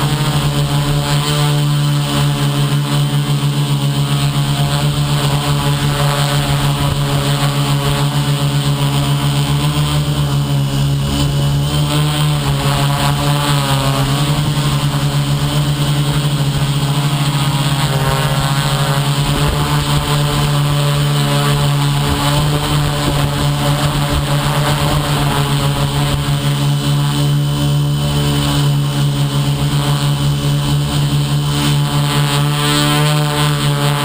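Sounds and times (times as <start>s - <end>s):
model aircraft motor humming: 0.0s - 34.0s.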